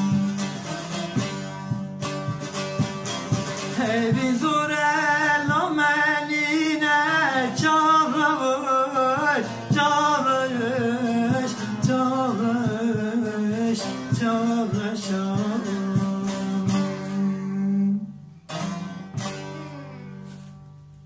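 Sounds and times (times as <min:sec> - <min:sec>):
plucked string accompaniment: 0:00.0 - 0:21.0.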